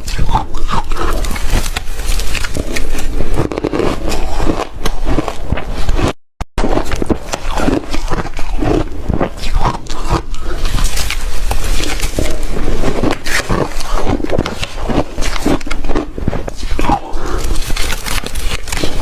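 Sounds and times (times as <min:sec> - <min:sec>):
chewing ice crunching: 0:00.1 - 0:19.0.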